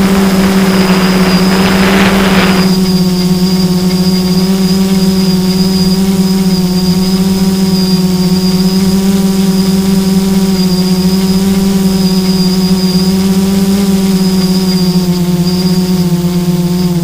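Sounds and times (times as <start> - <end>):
drone motor and propeller humming: 0.0 - 17.0.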